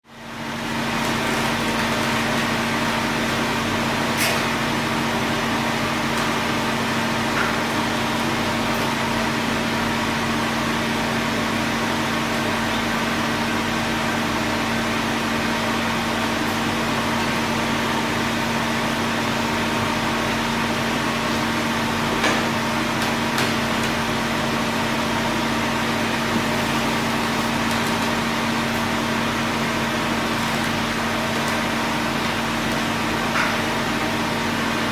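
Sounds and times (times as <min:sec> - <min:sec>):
workshop machinery humming: 0:00.0 - 0:34.9.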